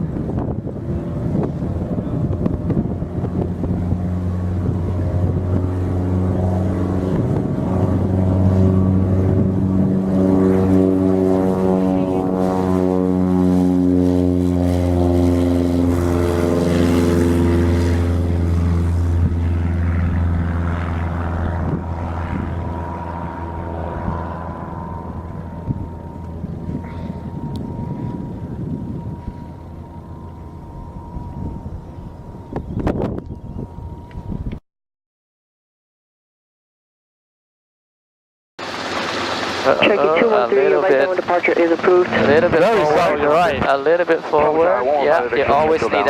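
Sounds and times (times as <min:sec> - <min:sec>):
helicopter engine and rotor droning: 0:00.0 - 0:34.6, 0:38.6 - 0:46.0.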